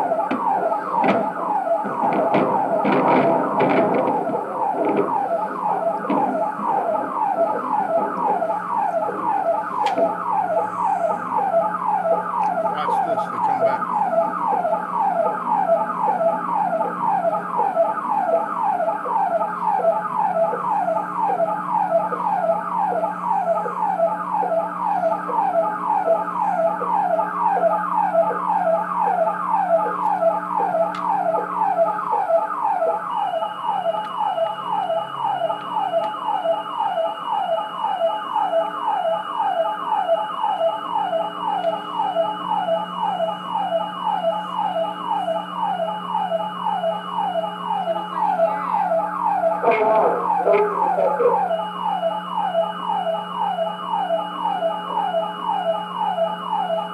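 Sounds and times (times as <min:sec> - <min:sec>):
police siren yelping: 0:00.0 - 0:56.9.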